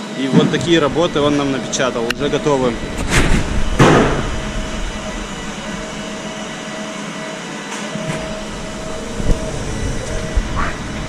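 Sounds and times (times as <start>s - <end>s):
mid-pitched machine tone: 0.0s - 11.0s
print machinery humming: 0.0s - 11.0s.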